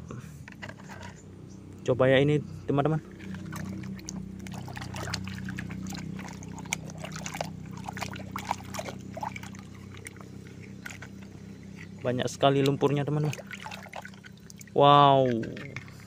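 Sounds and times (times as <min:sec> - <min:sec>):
steady low hum: 0:00.0 - 0:16.0
water splashing and sloshing: 0:03.0 - 0:16.0.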